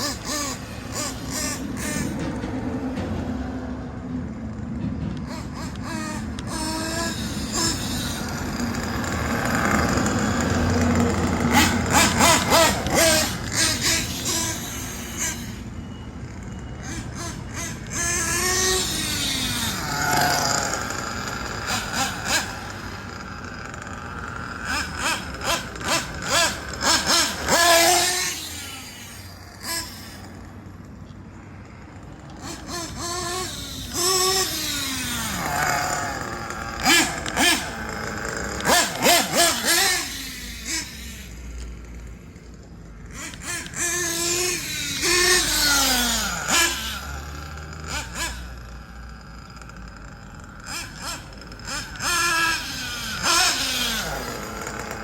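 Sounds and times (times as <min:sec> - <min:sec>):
model car engine revving: 0:00.0 - 0:55.0.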